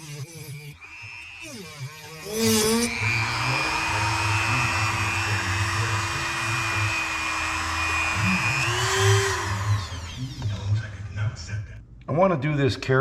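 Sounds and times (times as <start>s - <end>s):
rotary tool cutting metal: 0.0s - 10.7s.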